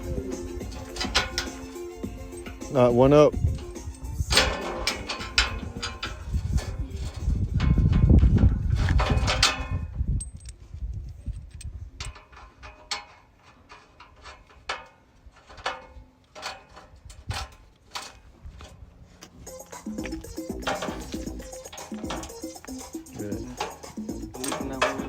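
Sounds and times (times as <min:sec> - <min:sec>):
metal hardware clicks and clinks: 0:00.0 - 0:25.0.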